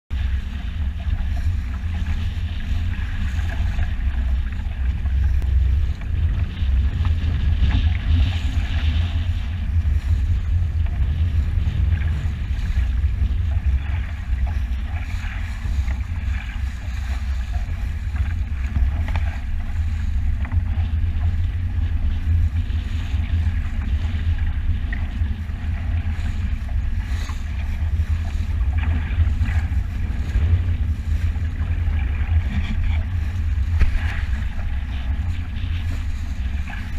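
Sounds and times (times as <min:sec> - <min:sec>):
water splashing along boat hull: 0:00.1 - 0:36.9
wind buffeting microphone: 0:00.1 - 0:36.9.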